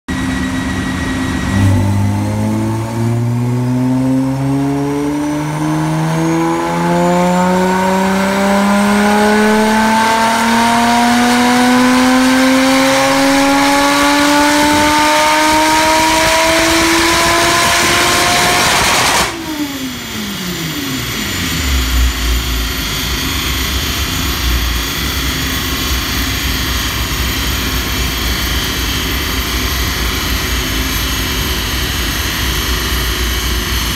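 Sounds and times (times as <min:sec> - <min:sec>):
car engine revving on dyno: 0:00.1 - 0:33.9.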